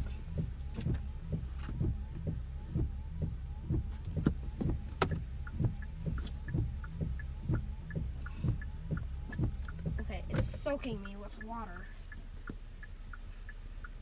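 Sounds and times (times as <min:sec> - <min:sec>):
steady low hum: 0:00.0 - 0:14.0
windshield wipers knocking: 0:00.0 - 0:14.0.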